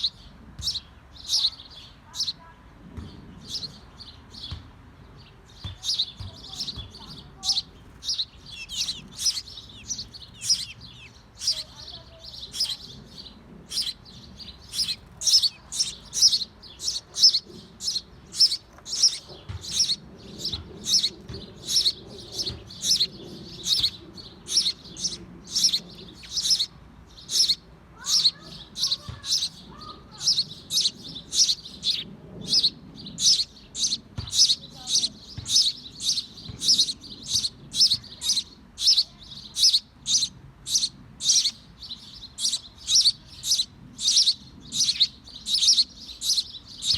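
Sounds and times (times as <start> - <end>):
small bird chirping: 0.0 - 46.9.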